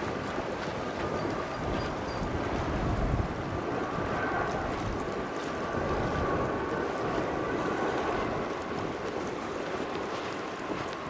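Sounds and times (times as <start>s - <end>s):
jet engine rumble: 0.0s - 11.0s
wind noise on microphone: 0.0s - 11.0s.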